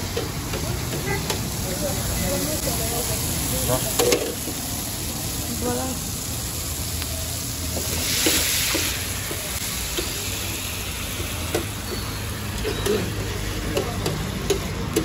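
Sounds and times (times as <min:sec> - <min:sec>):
liver sizzling on a griddle: 0:00.0 - 0:15.0.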